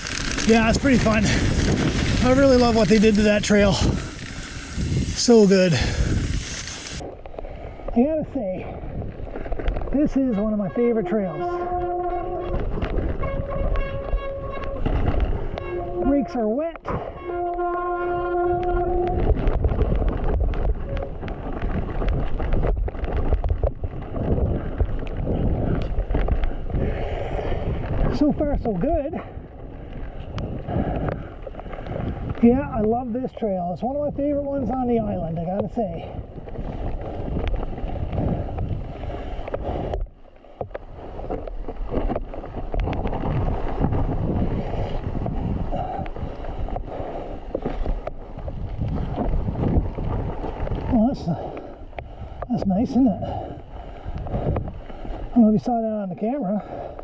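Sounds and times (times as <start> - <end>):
tyres rumbling over dirt: 0.0 - 16.6, 17.2 - 57.0
wind on microphone: 0.0 - 55.7
bike clicks and rattles: 0.0 - 55.8.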